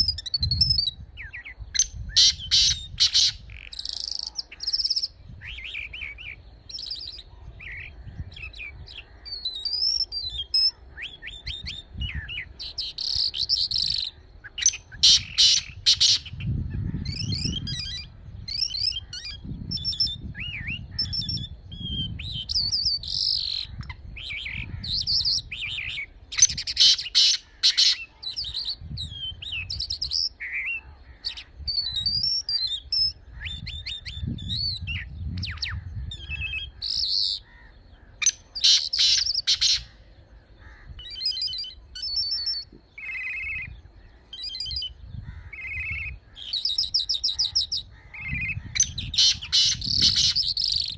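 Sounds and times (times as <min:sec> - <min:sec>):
lark singing: 0:00.0 - 0:50.9.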